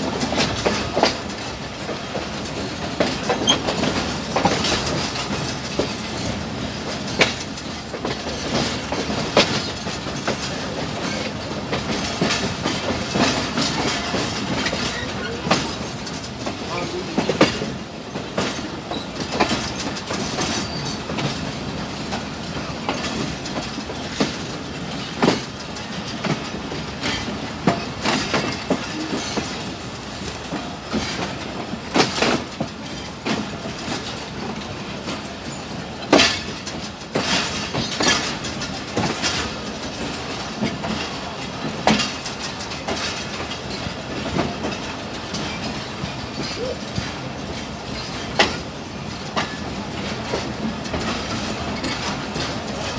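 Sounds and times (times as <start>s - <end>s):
train wheels clacking over rail joints: 0.0s - 52.9s.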